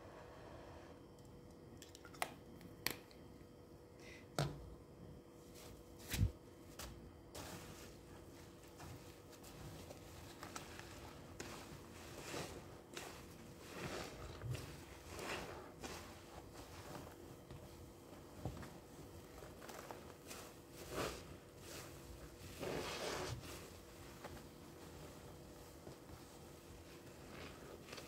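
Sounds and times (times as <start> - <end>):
sponge squishing in soapy water: 5.5 - 28.0.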